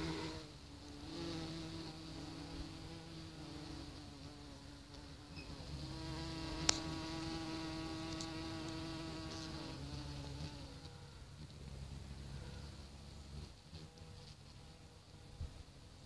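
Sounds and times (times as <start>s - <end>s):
moth wingbeats buzzing hum: 0.0s - 14.1s.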